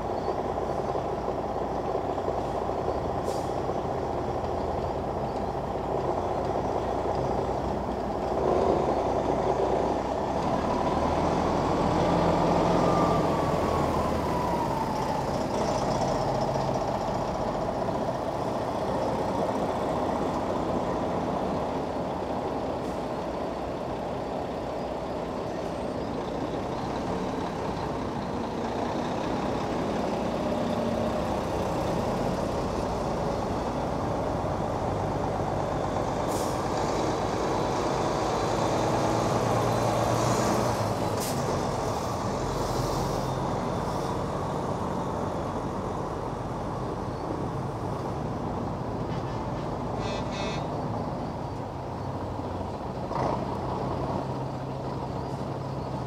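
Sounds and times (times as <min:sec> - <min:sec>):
diesel truck engines rumbling: 0:00.0 - 0:56.0.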